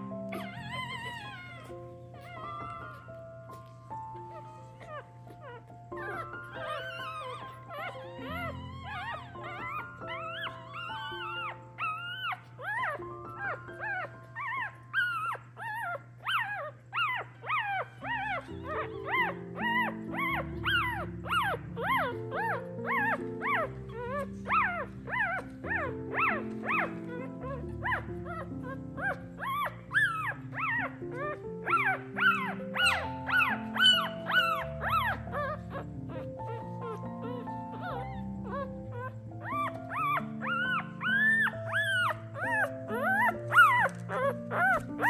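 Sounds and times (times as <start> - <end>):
background music: 0.0 - 45.0
puppies squeaking and crying: 0.0 - 45.0.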